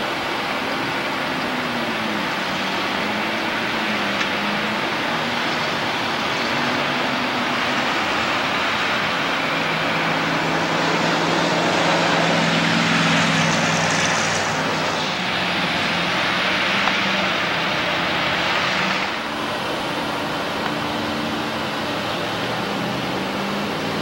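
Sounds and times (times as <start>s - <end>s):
engine running: 0.0s - 24.0s
loud rushing noise: 0.0s - 24.0s.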